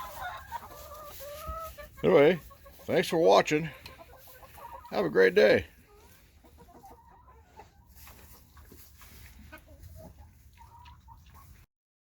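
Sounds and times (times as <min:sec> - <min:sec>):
chickens clucking: 0:00.0 - 0:11.7.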